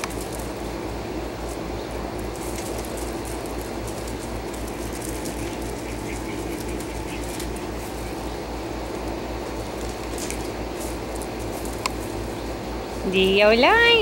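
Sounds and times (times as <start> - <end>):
low mechanical hum with throb: 0.0 - 14.0.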